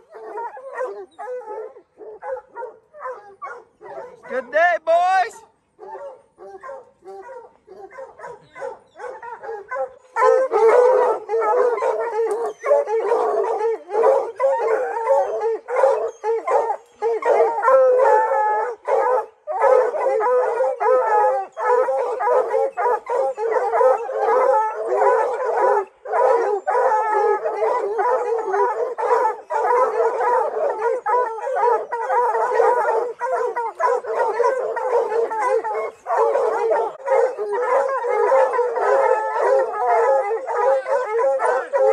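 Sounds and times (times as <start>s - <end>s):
hounds baying and howling: 0.0s - 4.5s, 5.7s - 41.9s.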